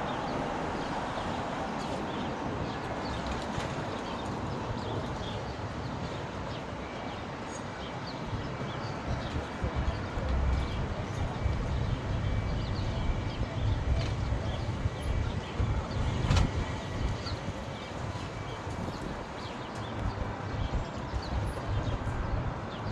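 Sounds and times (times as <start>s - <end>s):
funicular car rumbling on track: 0.0s - 22.9s.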